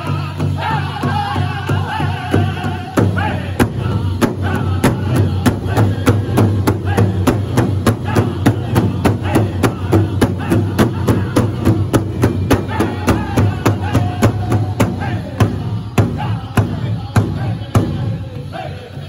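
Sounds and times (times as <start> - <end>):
group singing: 0.0 - 19.0
large hand drum beating: 1.0 - 18.1.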